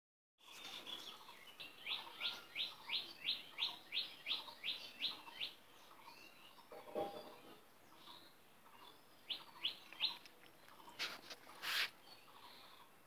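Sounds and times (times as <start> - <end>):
bird chirping: 0.4 - 13.0.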